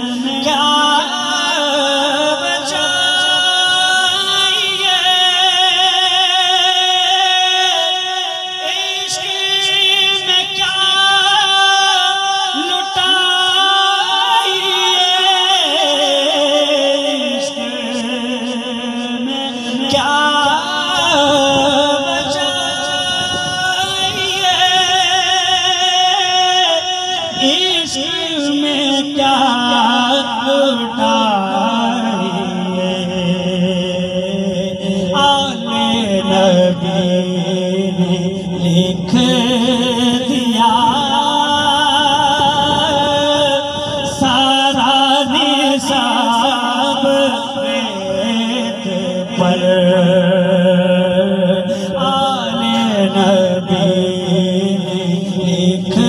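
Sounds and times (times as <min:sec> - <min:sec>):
man singing into a microphone: 0:00.0 - 0:56.0.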